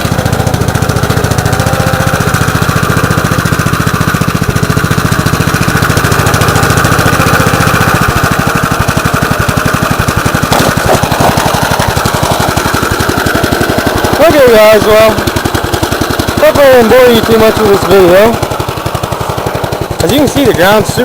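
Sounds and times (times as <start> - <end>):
single-cylinder tractor engine: 0.0 - 21.0.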